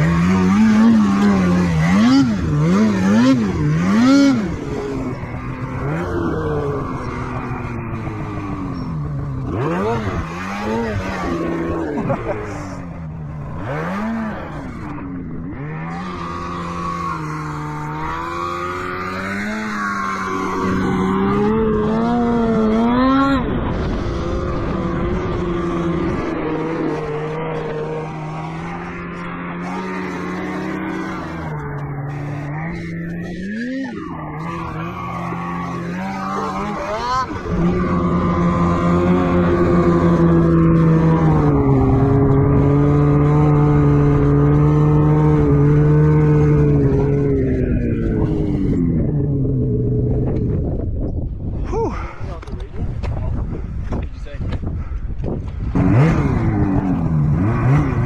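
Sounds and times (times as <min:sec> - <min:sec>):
snowmobile engine revving: 0:00.0 - 0:50.8, 0:55.5 - 0:58.0.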